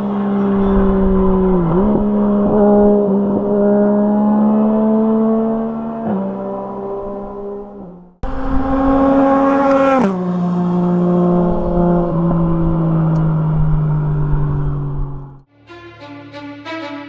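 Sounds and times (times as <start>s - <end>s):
motorcycle engine: 0.0s - 17.0s.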